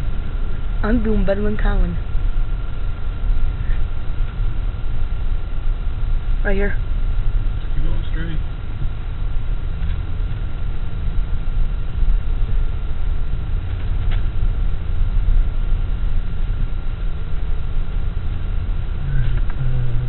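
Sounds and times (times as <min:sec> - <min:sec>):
truck engine and tyres rumbling: 0:00.0 - 0:20.0.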